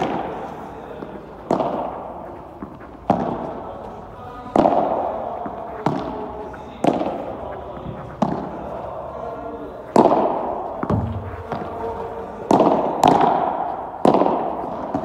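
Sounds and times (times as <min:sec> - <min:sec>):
padel ball knocks echoing: 0:00.0 - 0:03.7, 0:04.3 - 0:15.0.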